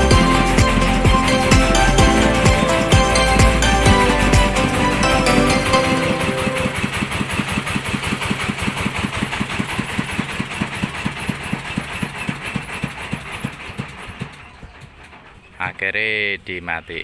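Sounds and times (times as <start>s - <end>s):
engine chugging and running down: 0.0s - 17.0s.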